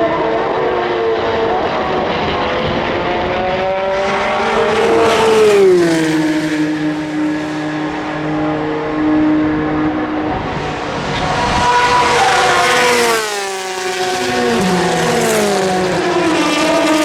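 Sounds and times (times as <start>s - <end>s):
race car passing by: 0.0s - 17.0s.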